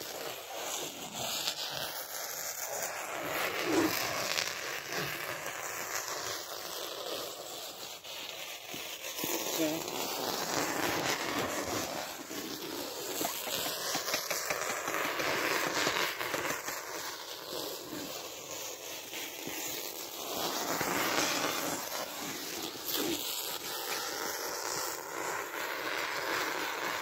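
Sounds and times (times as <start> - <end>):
plastic stretch film crackling: 0.0 - 27.0.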